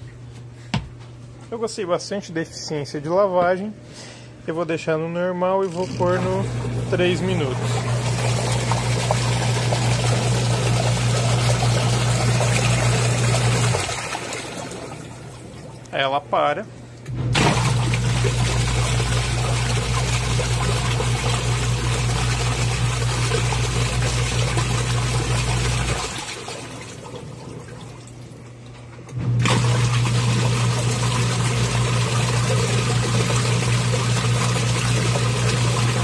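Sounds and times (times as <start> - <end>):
washing machine motor humming: 4.5 - 36.0
agitator churning water: 5.6 - 16.1, 17.3 - 36.0.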